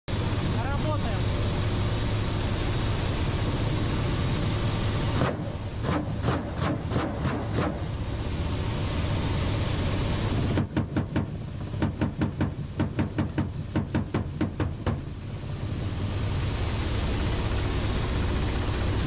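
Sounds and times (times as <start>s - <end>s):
helicopter rotor and engine drone: 0.1s - 19.0s.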